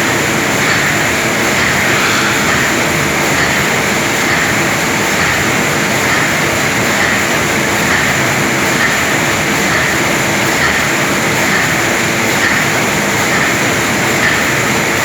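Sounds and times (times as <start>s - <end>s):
bag making machine rumbling: 0.0s - 15.0s.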